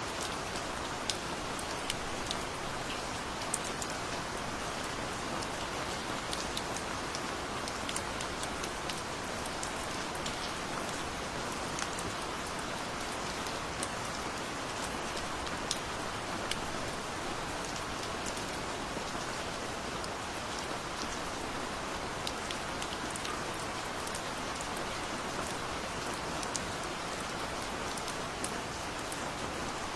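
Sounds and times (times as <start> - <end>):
steady rain hiss: 0.0 - 29.9
raindrops ticking on a surface: 0.1 - 29.9.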